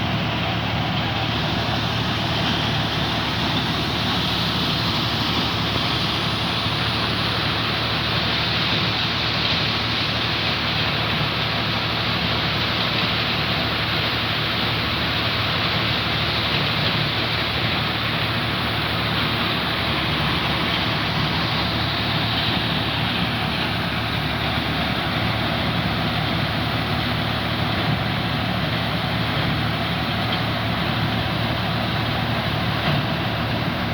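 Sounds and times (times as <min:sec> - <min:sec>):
low engine drone: 0:00.0 - 0:33.9.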